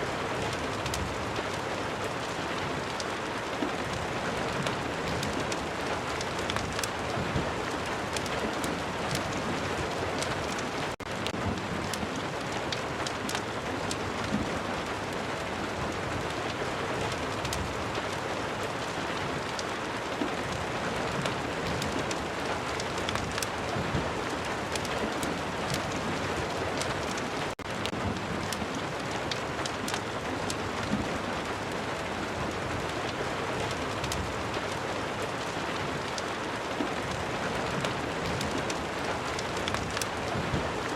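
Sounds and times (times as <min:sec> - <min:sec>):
fireplace crackles: 0:00.0 - 0:40.9
steady rain falling: 0:00.0 - 0:40.9.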